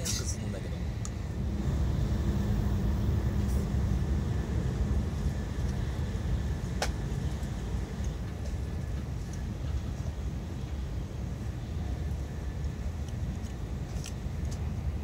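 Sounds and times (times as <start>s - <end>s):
train cabin low rumble: 0.0s - 15.0s.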